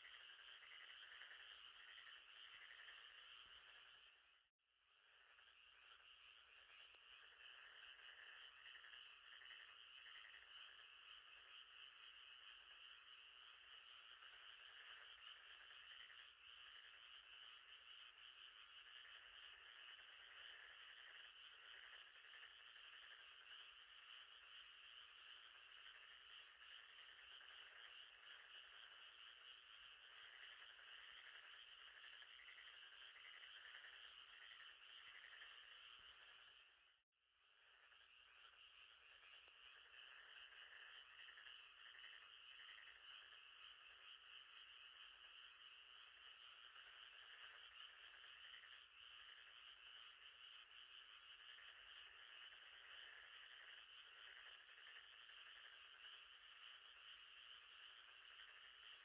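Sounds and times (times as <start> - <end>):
frogs trilling: 0.0 - 36.9, 37.5 - 59.0.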